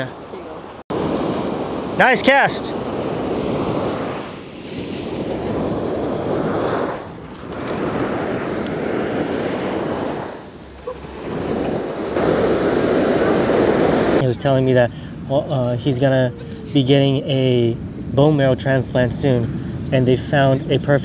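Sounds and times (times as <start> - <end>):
ocean surf breaking on beach: 0.0 - 20.8.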